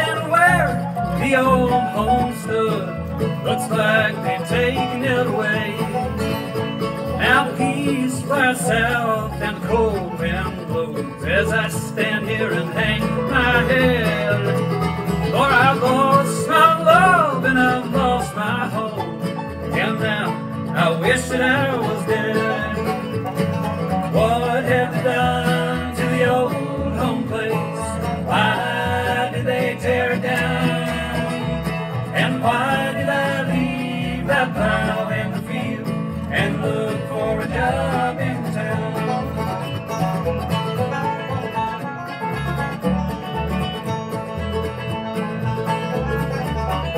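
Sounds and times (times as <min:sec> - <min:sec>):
acoustic guitar picking: 0:00.0 - 0:46.9
banjo picking: 0:00.0 - 0:46.9
upright bass walking line: 0:00.0 - 0:46.9.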